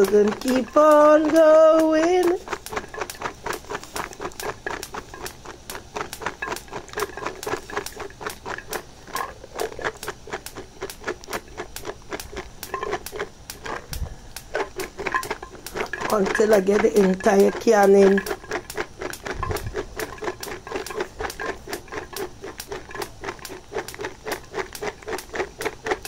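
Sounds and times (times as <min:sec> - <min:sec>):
peas clicking and popping in pot: 0:00.0 - 0:26.0.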